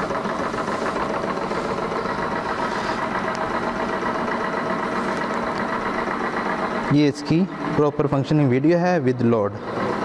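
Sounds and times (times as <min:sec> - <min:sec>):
stirling engine running: 0:00.0 - 0:10.0.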